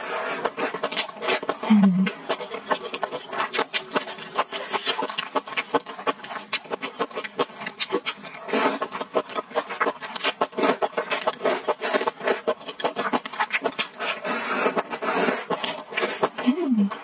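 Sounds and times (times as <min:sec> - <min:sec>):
close eating and chewing: 0:00.0 - 0:17.0.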